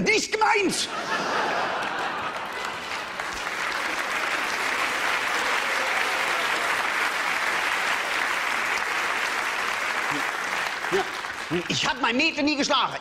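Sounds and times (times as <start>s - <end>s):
audience applauding: 1.3s - 12.9s.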